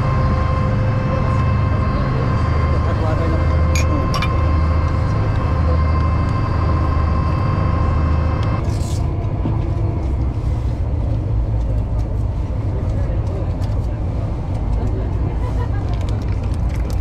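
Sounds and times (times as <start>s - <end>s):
boat engines rumbling: 0.0s - 17.0s
steady whine: 0.0s - 17.0s.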